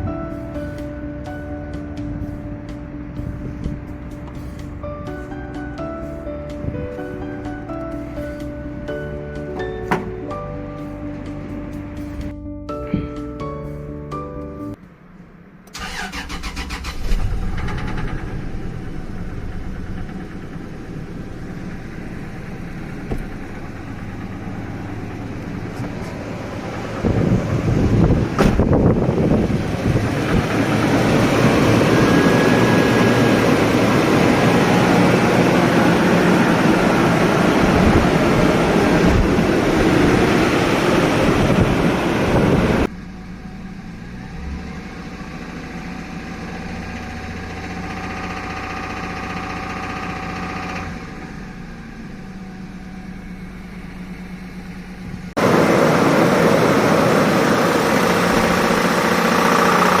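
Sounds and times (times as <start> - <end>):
rough engine running: 0.0 - 12.4, 15.7 - 60.0.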